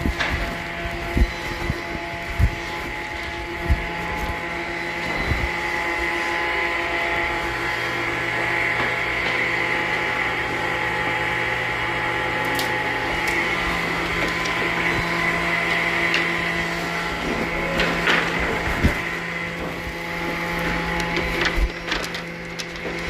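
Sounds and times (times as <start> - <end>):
sawmill machinery humming: 0.0 - 23.0.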